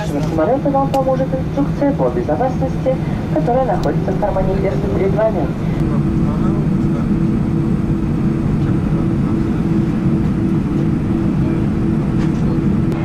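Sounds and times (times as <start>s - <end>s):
jet engines rumbling in cabin: 0.0s - 13.0s.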